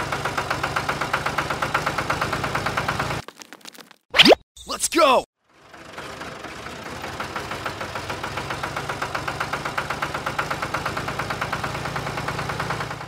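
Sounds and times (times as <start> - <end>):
diesel engine chugging: 0.0 - 3.2, 5.4 - 13.0.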